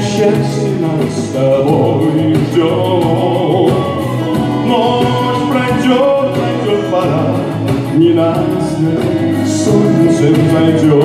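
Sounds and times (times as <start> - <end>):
conga drums: 0.0 - 11.0
electronic keyboard: 0.0 - 11.0
man singing: 0.0 - 11.0.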